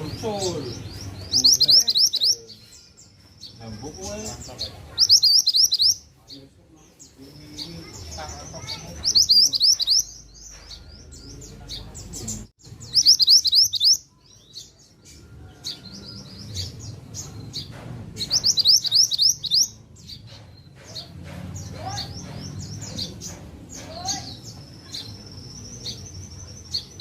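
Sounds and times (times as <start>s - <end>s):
songbird chirping: 0.0s - 27.0s.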